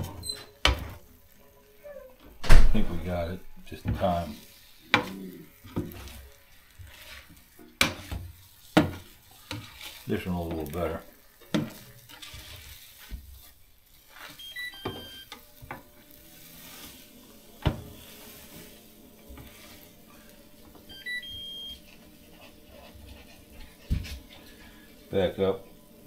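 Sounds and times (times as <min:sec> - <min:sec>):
food sizzling on a griddle: 0:00.0 - 0:26.0.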